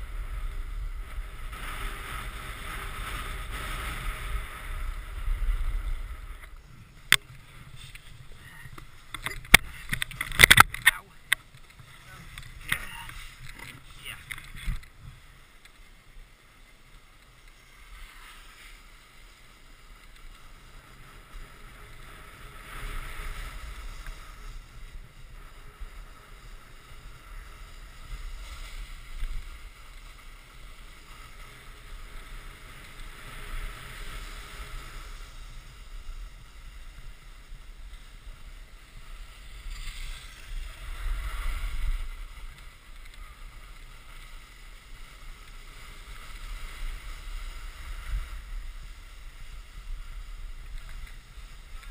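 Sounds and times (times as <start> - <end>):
snowboard scraping over snow: 0.0 - 51.9
wind rumbling on microphone: 0.0 - 51.9.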